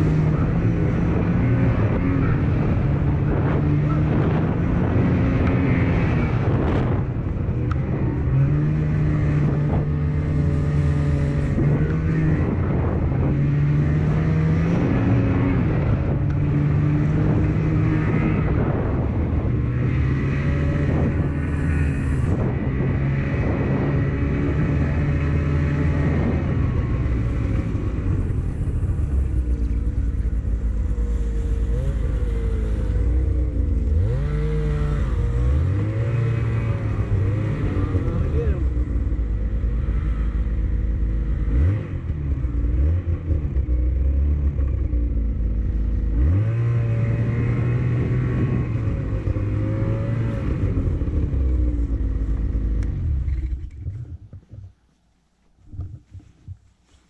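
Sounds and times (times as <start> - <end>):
second snowmobile revving: 0.0 - 54.3
snowmobile engine: 0.0 - 54.6.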